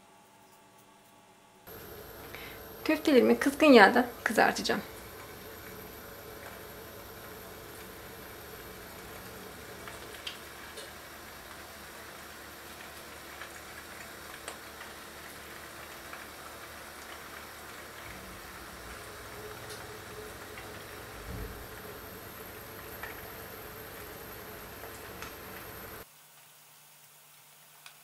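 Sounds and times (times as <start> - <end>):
food frying in hot oil: 1.7 - 26.1.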